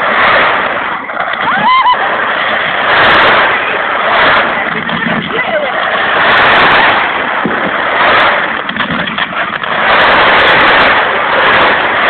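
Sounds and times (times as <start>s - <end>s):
fireworks bursts and crackle: 0.0s - 12.0s.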